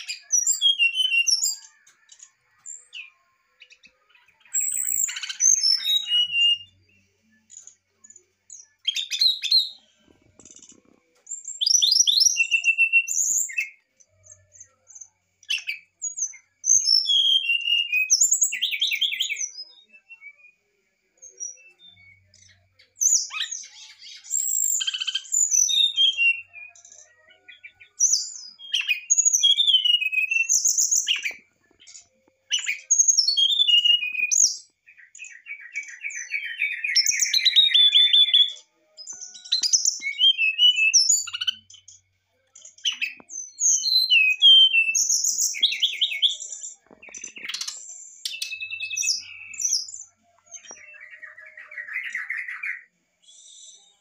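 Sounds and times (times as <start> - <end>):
bird singing whistled phrases: 0.0 - 7.1, 8.6 - 9.8, 11.3 - 13.8, 15.4 - 41.7, 42.8 - 54.0.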